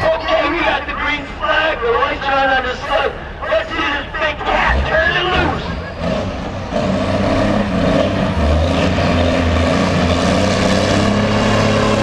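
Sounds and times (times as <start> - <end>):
loud diesel engine drone: 0.0 - 12.0.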